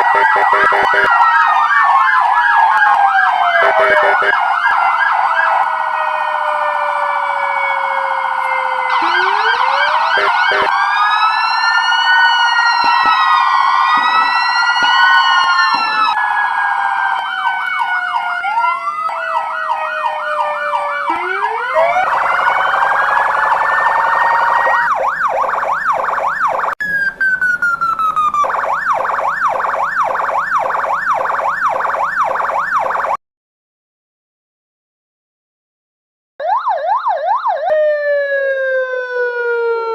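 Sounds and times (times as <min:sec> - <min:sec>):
fire truck sirens wailing and yelping: 0:00.0 - 0:33.2, 0:36.4 - 0:39.9.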